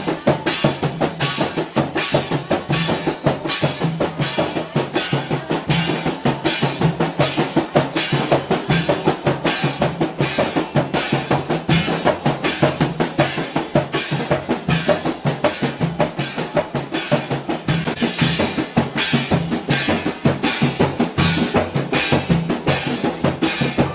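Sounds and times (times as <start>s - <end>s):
cymbal struck with a stick: 0.0s - 23.9s
frame drums beaten by hand: 0.0s - 23.9s
jingling tambourine: 0.0s - 23.9s.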